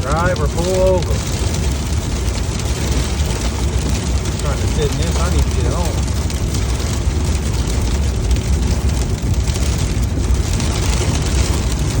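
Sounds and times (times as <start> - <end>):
deep rumble: 0.0 - 12.0
wind and rain beating on car: 0.0 - 12.0.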